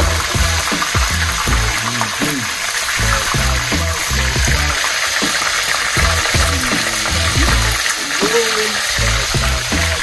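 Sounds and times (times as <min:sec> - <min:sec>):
background music with a beat: 0:00.0 - 0:10.0
food sizzling in hot oil: 0:00.0 - 0:10.0.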